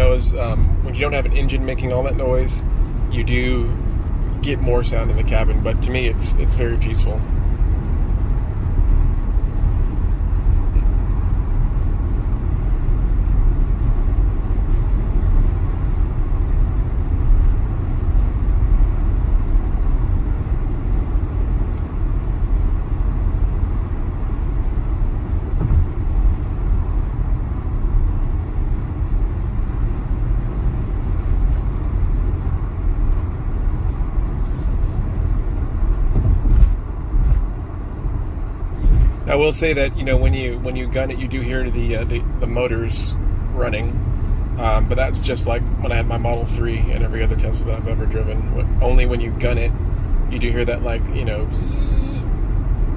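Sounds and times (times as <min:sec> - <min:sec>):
road rumble in car cabin: 0:00.0 - 0:52.9
wind noise in car cabin: 0:00.0 - 0:52.9.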